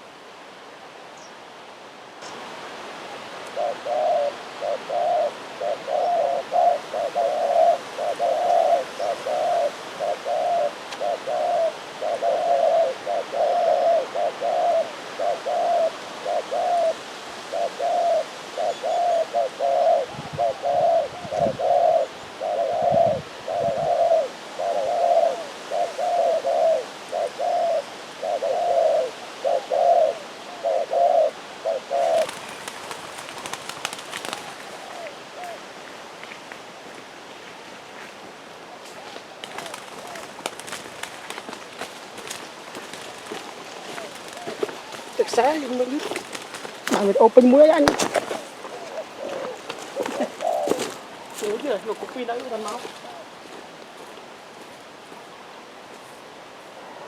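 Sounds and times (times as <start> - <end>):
dove cooing: 3.5 - 35.6, 38.9 - 41.4, 42.2 - 53.4.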